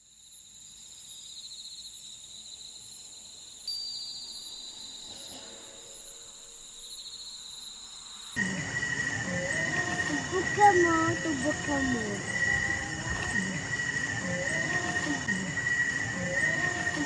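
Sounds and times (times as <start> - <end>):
crickets trilling: 0.0 - 17.0
lower insect trill: 0.0 - 17.0.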